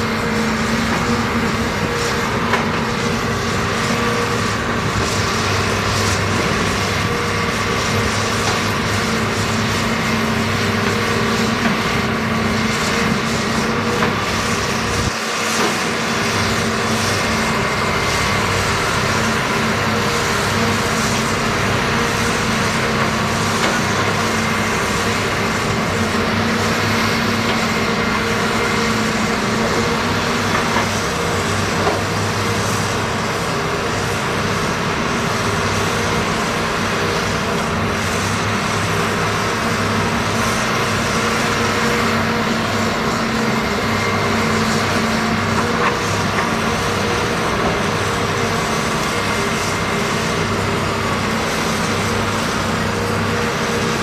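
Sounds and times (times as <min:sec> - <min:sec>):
heavy diesel engines under load: 0:00.0 - 0:54.0.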